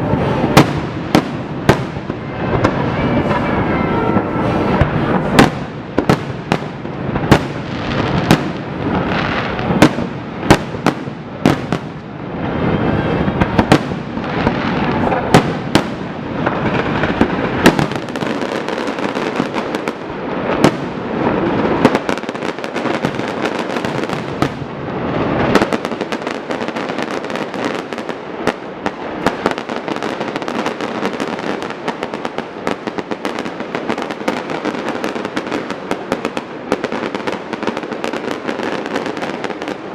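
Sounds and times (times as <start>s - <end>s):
firework crackling: 0.0s - 39.9s
firework shells booming: 0.0s - 39.9s.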